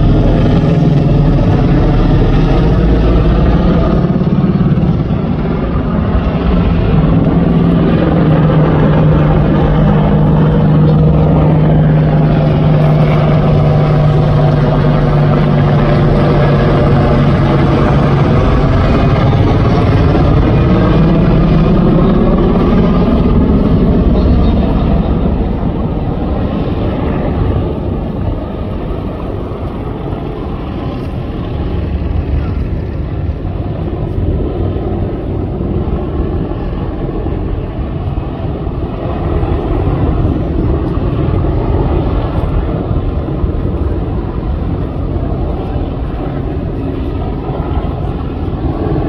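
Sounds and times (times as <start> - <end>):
helicopter flying overhead: 0.0 - 49.0.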